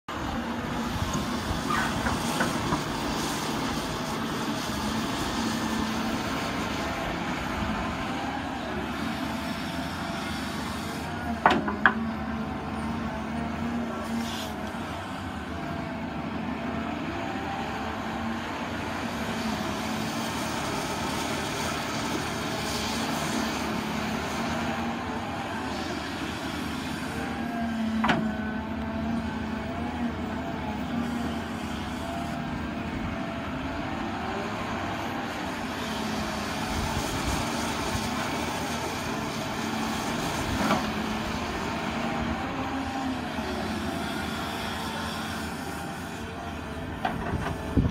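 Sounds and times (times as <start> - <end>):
excavator engine running: 0.1 - 47.9.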